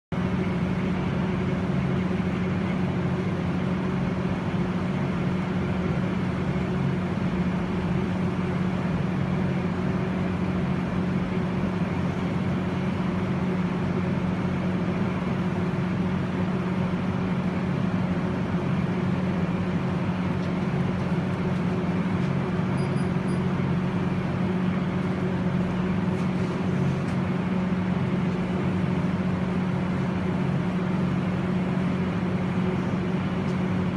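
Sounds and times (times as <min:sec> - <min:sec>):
machinery hum with hiss: 0:00.2 - 0:33.9.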